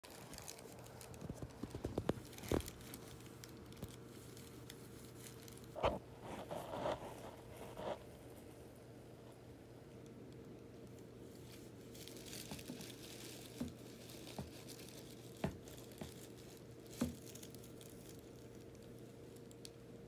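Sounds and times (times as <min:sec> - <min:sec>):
plastic bag crinkling: 0:00.0 - 0:08.5, 0:10.8 - 0:19.7.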